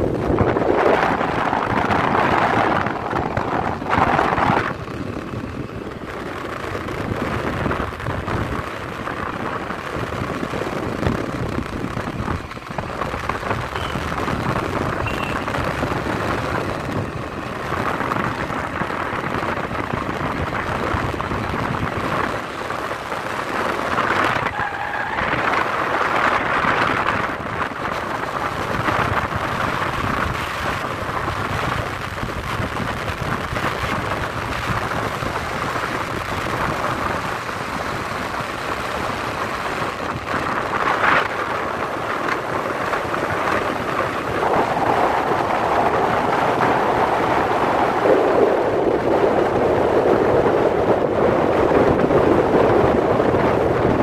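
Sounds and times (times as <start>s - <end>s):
vehicle road and wind noise: 0.0s - 54.0s.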